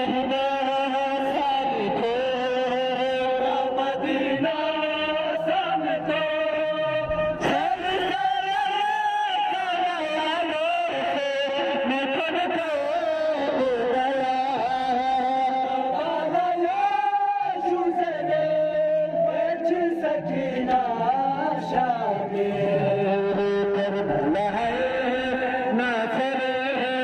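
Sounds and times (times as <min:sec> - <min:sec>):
male voices chanting a lament: 0:00.0 - 0:27.0.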